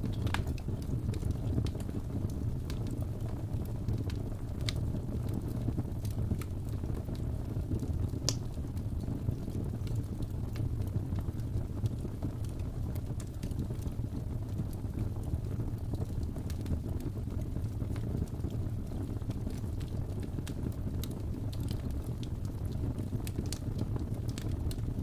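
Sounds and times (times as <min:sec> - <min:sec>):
fire crackling in a fireplace: 0:00.0 - 0:25.0.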